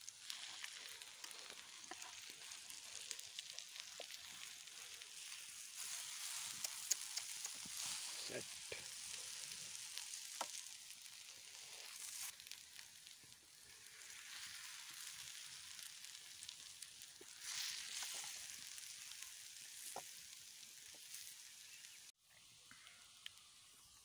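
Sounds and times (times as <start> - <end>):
omelette sizzling in oil: 0.0 - 24.0.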